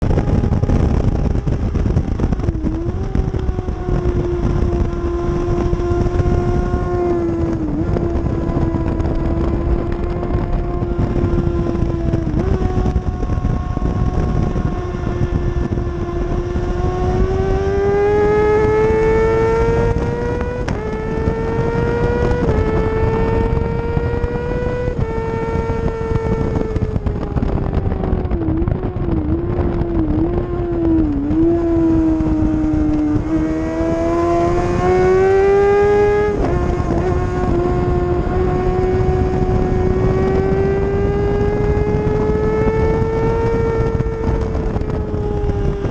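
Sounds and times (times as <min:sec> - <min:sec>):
motorcycle engine revving: 0:00.0 - 0:45.9
wind rush: 0:00.0 - 0:45.9.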